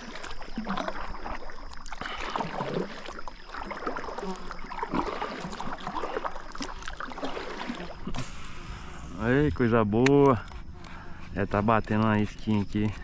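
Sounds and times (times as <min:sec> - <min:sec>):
water splashing around a kayak: 0:00.0 - 0:13.0.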